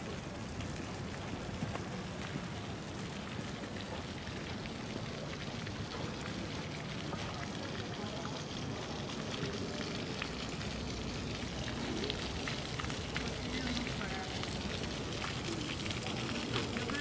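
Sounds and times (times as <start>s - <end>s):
street ambience hiss: 0.0s - 17.0s.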